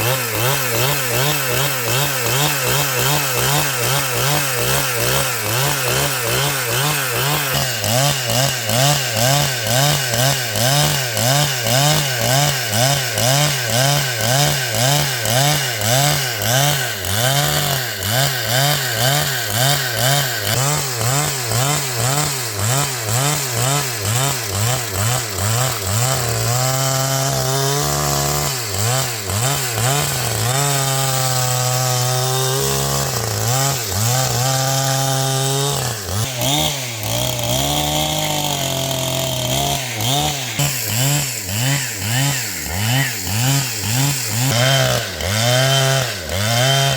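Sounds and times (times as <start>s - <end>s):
chainsaw cutting: 0.0s - 46.9s.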